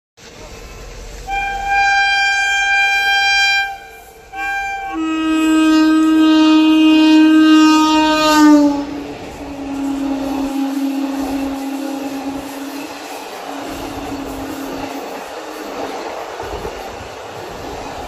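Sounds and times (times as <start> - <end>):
train running noise: 0.2 - 18.0
locomotive horn blasts: 1.2 - 17.0.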